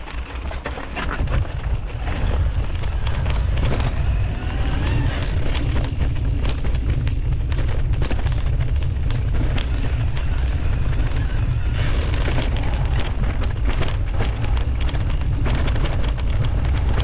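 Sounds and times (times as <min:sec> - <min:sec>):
bike tyres clicking and rattling: 0:00.0 - 0:17.0
wind rumble on microphone: 0:00.0 - 0:17.0.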